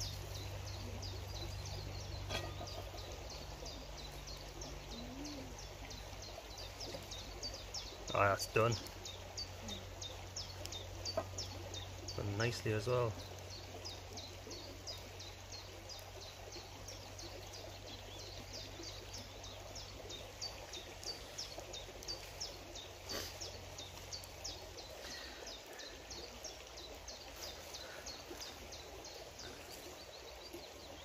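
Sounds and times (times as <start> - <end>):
bird chirping: 0.0 - 31.0
faint outdoor background noise: 0.0 - 31.0.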